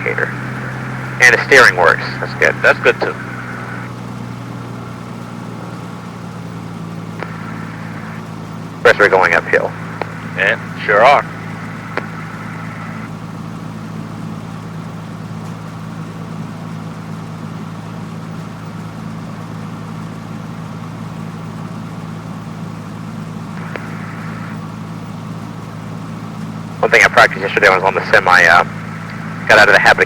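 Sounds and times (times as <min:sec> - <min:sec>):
aircraft engine droning: 0:00.0 - 0:30.0.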